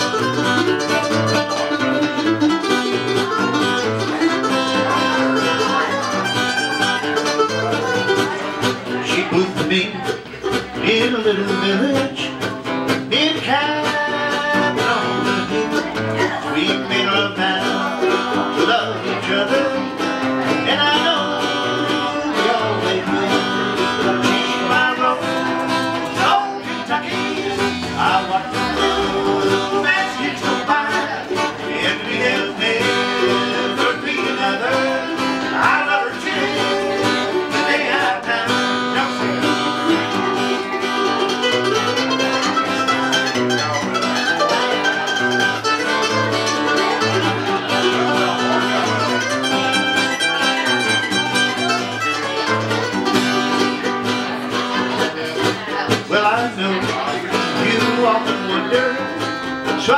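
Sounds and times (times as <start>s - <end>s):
acoustic guitar strumming: 0.0s - 59.9s
picked mandolin: 0.0s - 59.9s.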